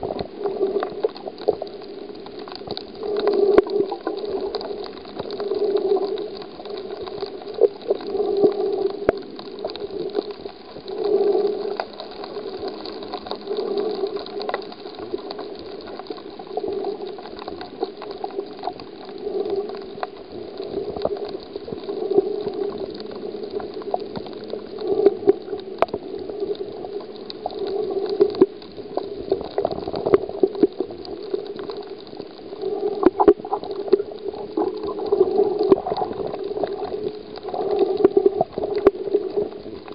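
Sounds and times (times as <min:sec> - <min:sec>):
underwater sloshing and bubbling: 0:00.0 - 0:39.9.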